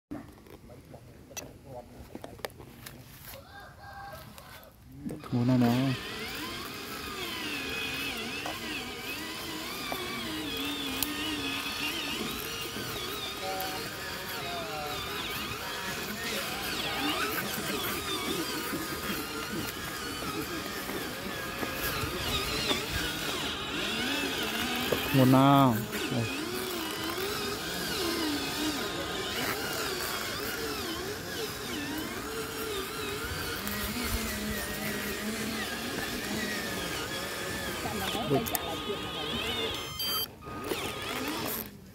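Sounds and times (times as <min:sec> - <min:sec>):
electric motor whining: 0:05.0 - 0:41.9.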